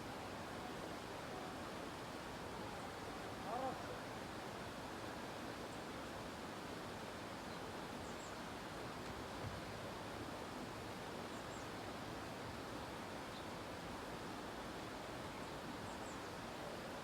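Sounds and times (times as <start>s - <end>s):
outdoor ambient hiss: 0.0s - 17.0s.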